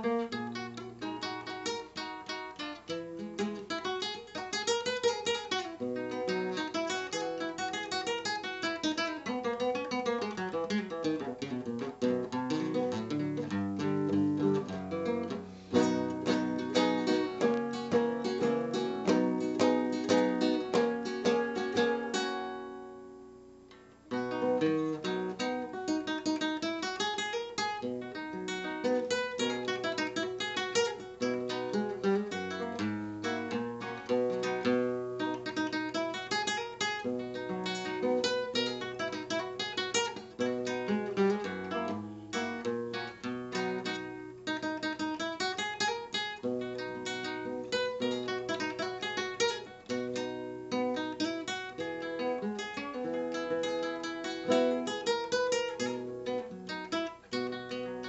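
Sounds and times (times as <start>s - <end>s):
flamenco guitar playing: 0.0s - 58.0s.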